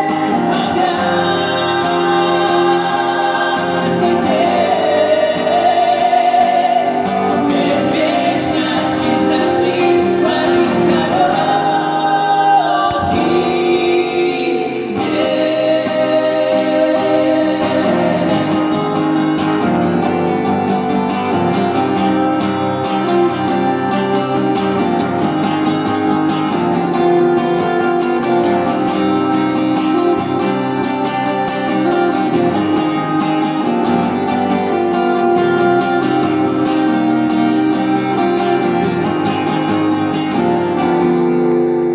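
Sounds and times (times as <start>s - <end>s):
pop ballad with guitar: 0.0s - 41.9s.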